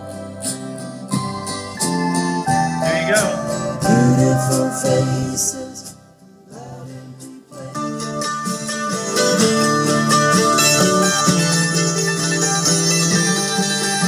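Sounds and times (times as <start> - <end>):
guitar-led music on small speakers: 0.0 - 14.0.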